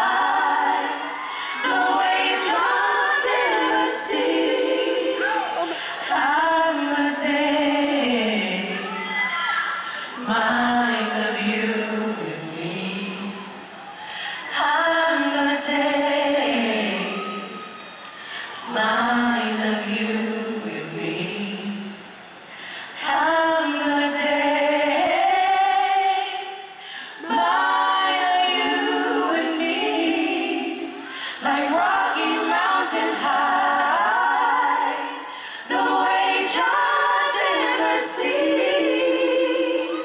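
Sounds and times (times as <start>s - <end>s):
women singing in harmony: 0.0s - 40.0s.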